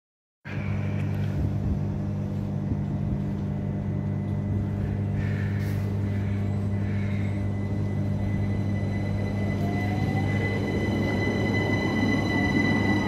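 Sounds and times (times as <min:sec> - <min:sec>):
train humming at platform: 0:00.5 - 0:13.0.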